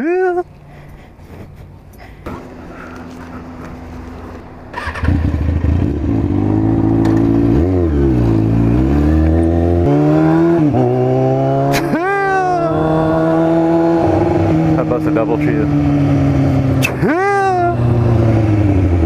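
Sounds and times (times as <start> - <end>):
motorcycle engine revving: 2.3 - 19.0.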